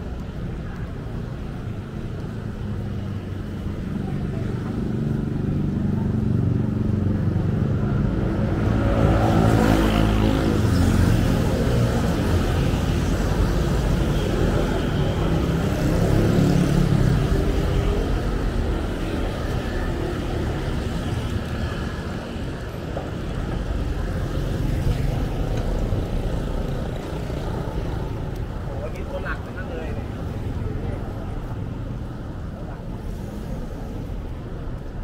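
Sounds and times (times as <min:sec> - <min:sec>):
traffic passing: 0:00.0 - 0:35.0.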